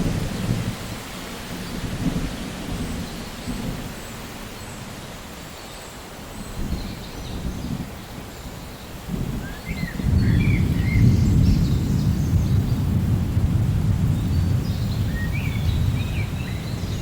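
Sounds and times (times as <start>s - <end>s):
rolling thunder rumbling: 0.0s - 5.0s, 6.5s - 17.0s
steady rain: 0.0s - 17.0s.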